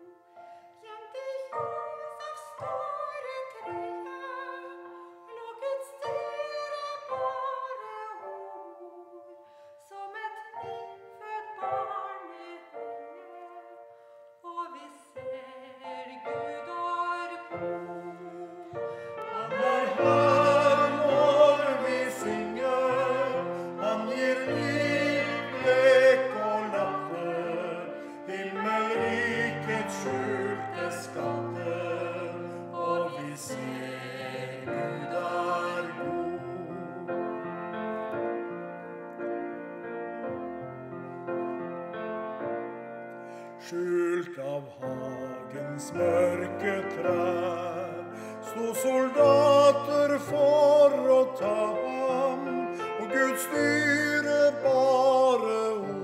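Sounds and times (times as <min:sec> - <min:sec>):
hymn singing: 0:00.0 - 0:38.6, 0:43.6 - 0:56.0
grand piano accompaniment: 0:00.0 - 0:56.0.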